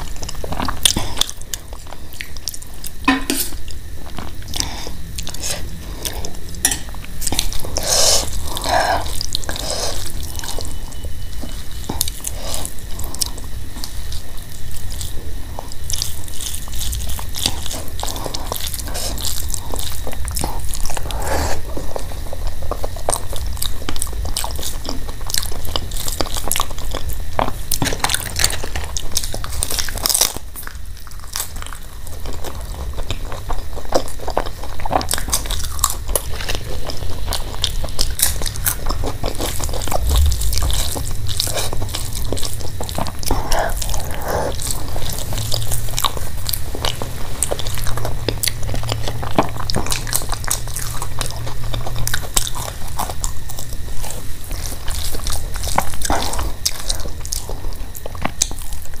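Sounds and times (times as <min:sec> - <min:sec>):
wet chewing and smacking: 0:00.0 - 0:59.0.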